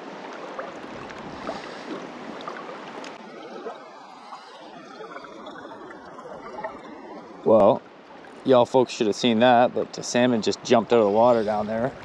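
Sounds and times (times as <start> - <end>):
river water running over rocks: 0.0 - 12.0.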